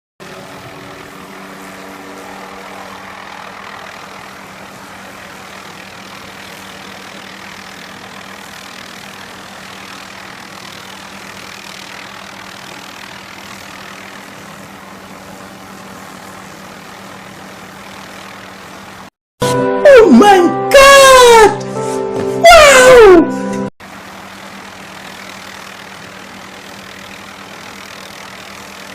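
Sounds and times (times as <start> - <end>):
helicopter engine and rotor drone: 0.2 - 19.2, 23.8 - 28.9.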